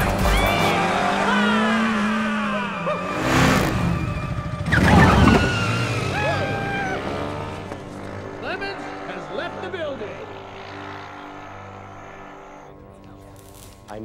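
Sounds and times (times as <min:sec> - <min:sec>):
loud rushing bursts: 0:00.0 - 0:12.7
action music score: 0:00.0 - 0:14.0
motorcycle engine: 0:00.0 - 0:14.0.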